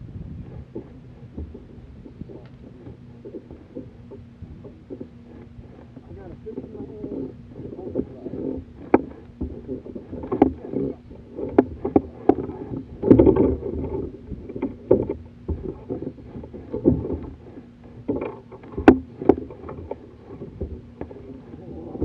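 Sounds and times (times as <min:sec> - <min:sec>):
knocks on kayak hulls: 0:00.3 - 0:21.4.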